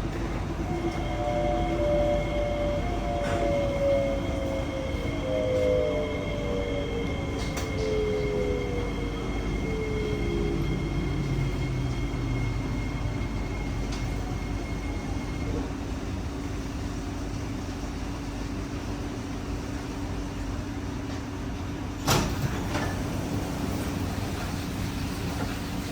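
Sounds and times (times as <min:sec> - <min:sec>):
train equipment humming: 0:00.0 - 0:25.9.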